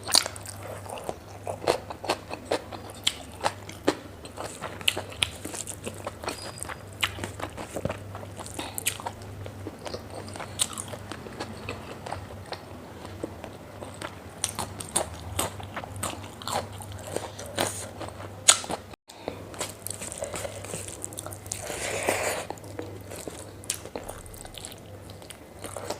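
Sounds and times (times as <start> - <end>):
close chewing and biting: 0.0 - 25.9.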